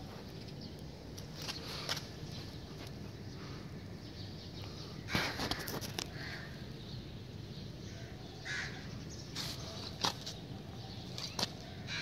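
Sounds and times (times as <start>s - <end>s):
outdoor background noise: 0.0s - 12.0s
harsh bird calls: 0.5s - 12.0s.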